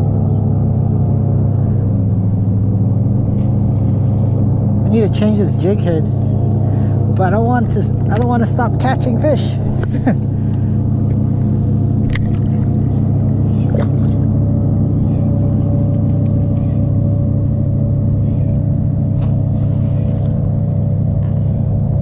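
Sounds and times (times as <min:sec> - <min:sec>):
loud low motor drone: 0:00.0 - 0:22.0.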